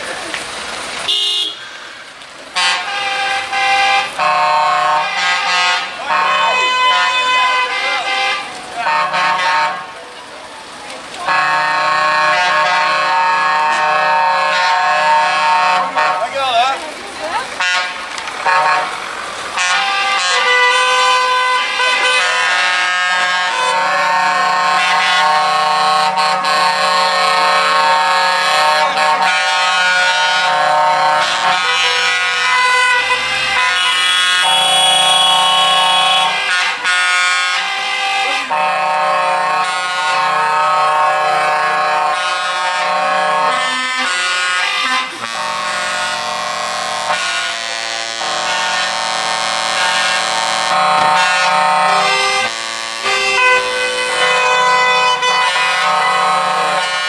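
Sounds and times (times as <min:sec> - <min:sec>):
vehicle horns blaring: 0:01.1 - 0:01.8, 0:02.6 - 0:10.0, 0:11.2 - 0:16.6, 0:17.6 - 0:19.0, 0:19.6 - 0:57.0.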